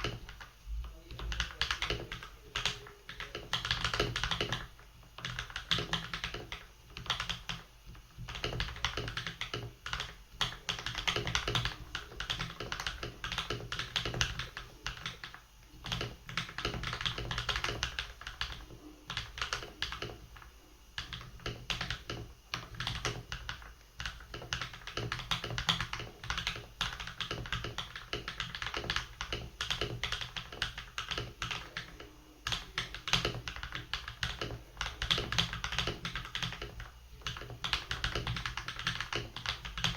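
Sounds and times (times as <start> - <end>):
low steady hum: 0.0 - 39.9
mechanical keyboard typing: 0.0 - 39.9.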